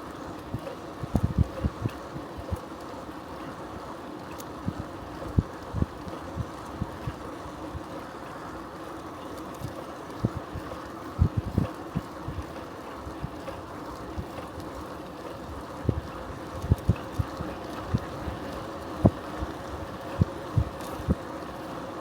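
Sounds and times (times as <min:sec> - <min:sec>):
bicycle tyres rolling hum: 0:00.0 - 0:22.0.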